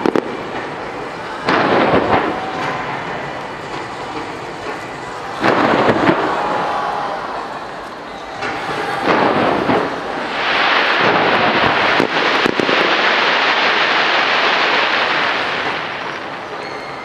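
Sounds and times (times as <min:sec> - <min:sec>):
sharp firework bangs: 0:00.0 - 0:07.1, 0:08.4 - 0:17.0
fireworks bursting: 0:00.0 - 0:17.0
fireworks crackling: 0:00.0 - 0:17.0.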